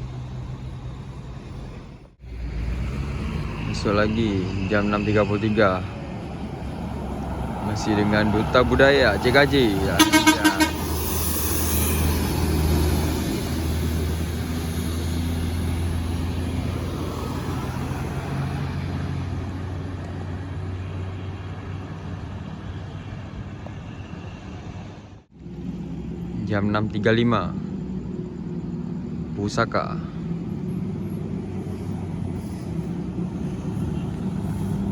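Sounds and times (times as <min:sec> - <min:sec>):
bus engine droning: 0:00.0 - 0:34.9.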